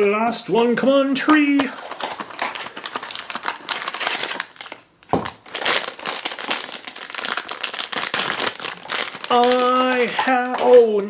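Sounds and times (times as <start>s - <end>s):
foil bag crinkling and tearing: 1.6s - 11.0s.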